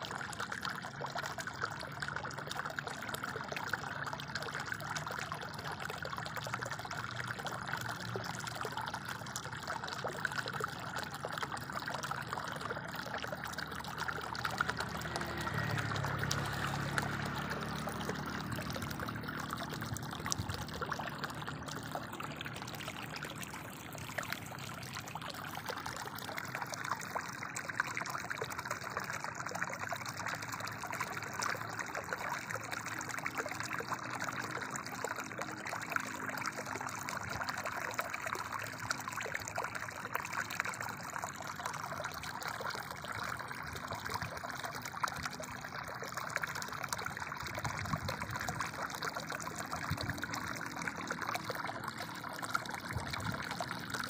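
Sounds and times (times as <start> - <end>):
stream water gurgling: 0.0 - 54.0.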